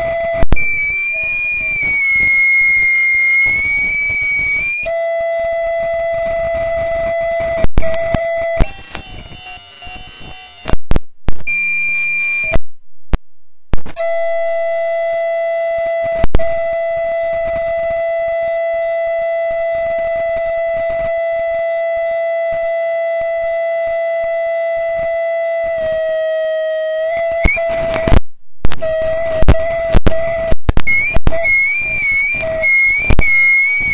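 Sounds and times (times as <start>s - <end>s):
crackles and clicks: 0.0s - 23.5s, 27.0s - 33.9s
audio feedback tone: 0.0s - 33.9s.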